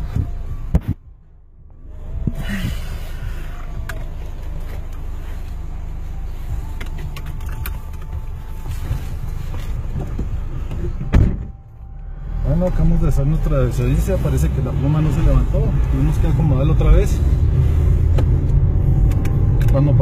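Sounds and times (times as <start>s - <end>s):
engine and traffic rumble: 0.0s - 20.0s.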